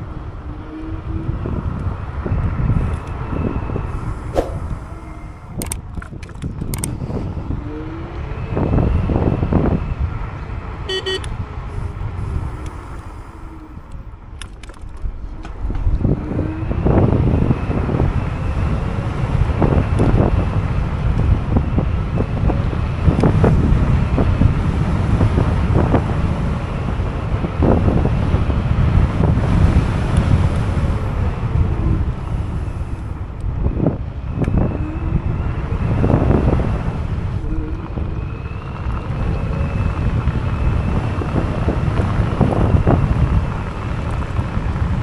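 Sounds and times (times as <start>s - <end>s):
electric scooter road rumble: 0.0s - 45.0s
wind buffeting microphone: 0.0s - 45.0s.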